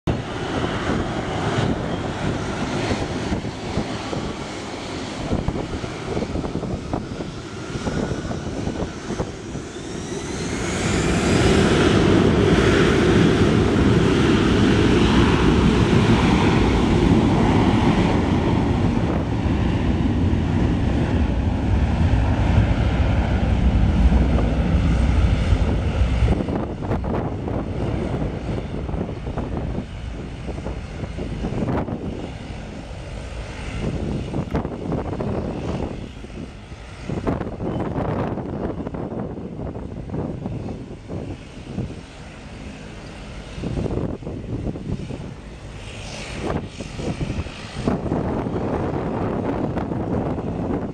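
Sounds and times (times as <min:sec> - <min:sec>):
jet engines whining and rumbling: 0:00.0 - 0:50.9.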